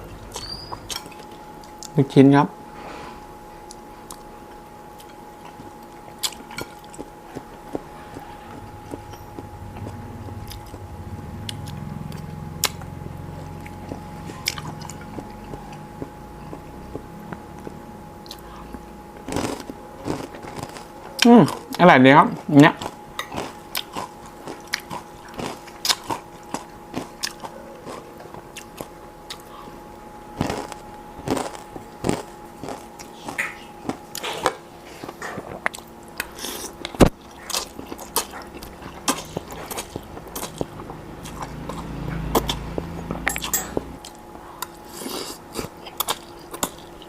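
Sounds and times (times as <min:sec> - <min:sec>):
chewing crunchy food: 0:03.6 - 0:47.0.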